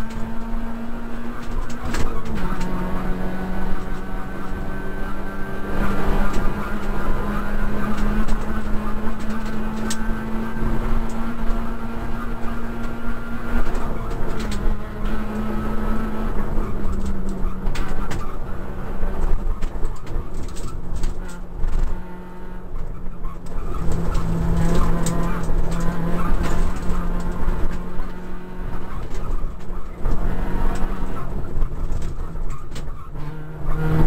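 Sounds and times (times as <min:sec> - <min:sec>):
rally car engine at high revs: 0:00.0 - 0:34.0
road noise: 0:00.0 - 0:34.0.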